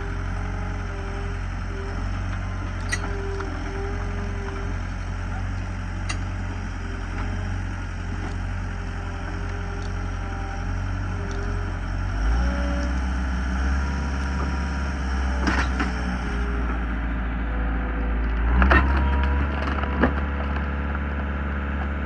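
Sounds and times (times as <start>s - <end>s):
engine running under load: 0.0s - 22.0s.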